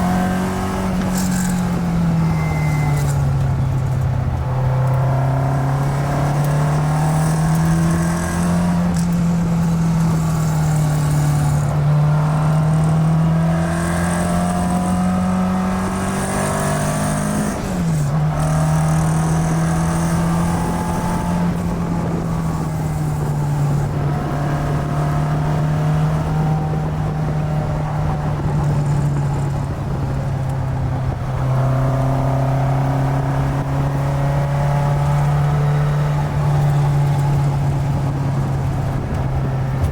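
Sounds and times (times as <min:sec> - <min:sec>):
car engine from inside cabin: 0:00.0 - 0:39.9.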